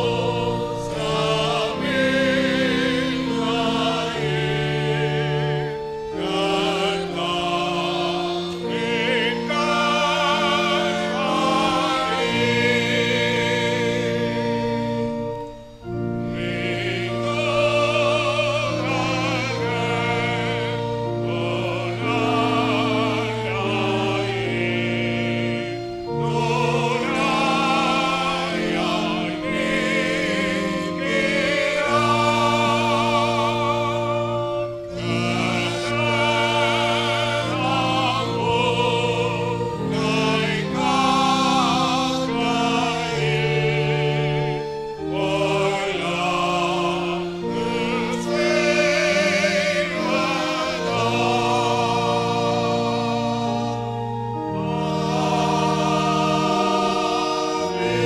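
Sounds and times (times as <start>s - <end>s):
choir singing: 0.0s - 58.0s
violin ensemble: 0.0s - 58.0s.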